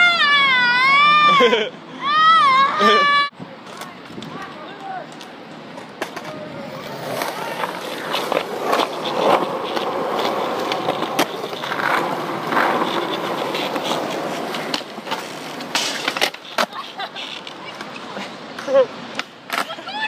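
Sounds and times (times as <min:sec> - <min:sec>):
skateboard wheels rolling on concrete: 0:00.0 - 0:20.0
skateboard clacking on ground: 0:03.6 - 0:20.0.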